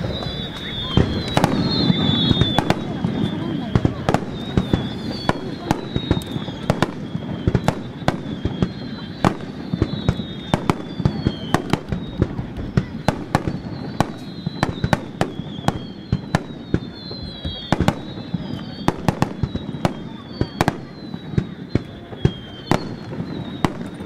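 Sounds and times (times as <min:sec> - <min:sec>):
fireworks shells bursting: 0:00.0 - 0:24.0
high falling whistles: 0:00.0 - 0:24.0.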